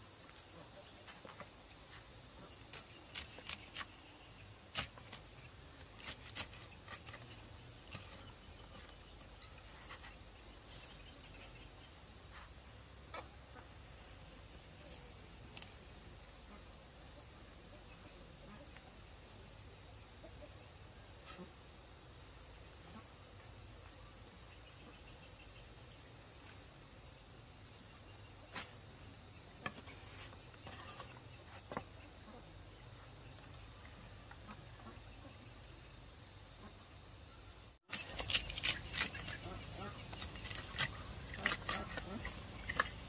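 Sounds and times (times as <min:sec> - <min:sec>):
crickets trilling: 0:00.0 - 0:43.0.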